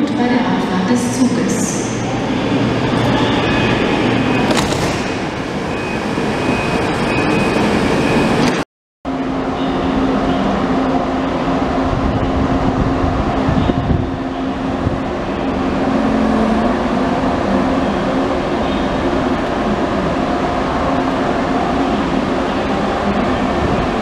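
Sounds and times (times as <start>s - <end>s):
railway station noise: 0.0s - 24.0s
train rolling with low hum: 0.0s - 24.0s.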